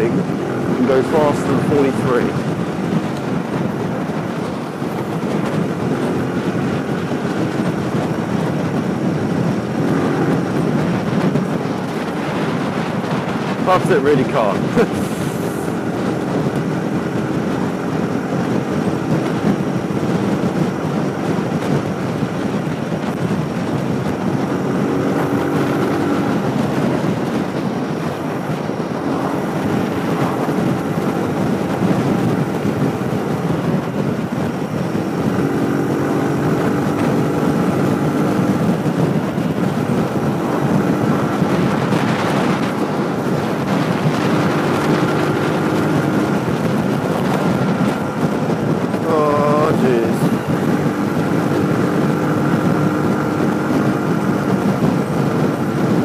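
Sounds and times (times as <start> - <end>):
motorcycle engine running: 0.0 - 56.0
wind rushing over camera: 0.0 - 56.0.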